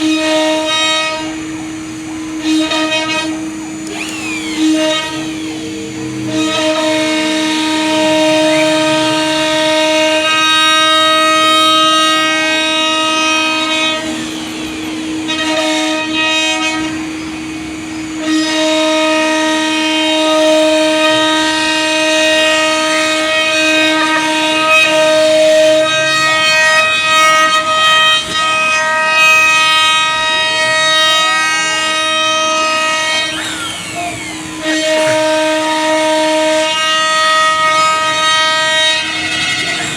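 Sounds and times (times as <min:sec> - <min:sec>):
router motors sliding in pitch: 0:00.0 - 0:39.9
wood router spindle whine: 0:00.0 - 0:39.9.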